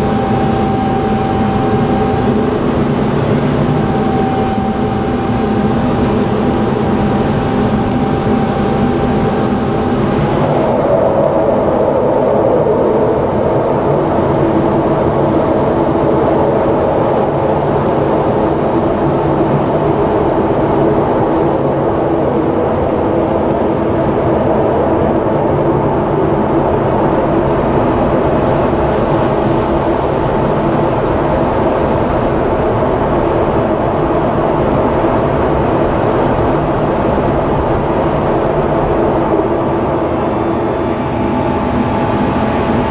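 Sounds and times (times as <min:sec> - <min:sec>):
high steady whine: 0:00.0 - 0:42.9
jet engine and airflow rush: 0:00.0 - 0:42.9.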